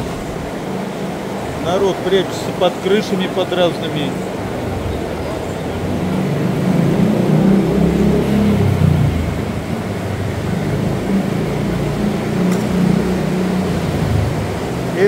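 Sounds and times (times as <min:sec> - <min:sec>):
street noise: 0:00.0 - 0:15.0
vehicle engine passing: 0:00.0 - 0:15.0.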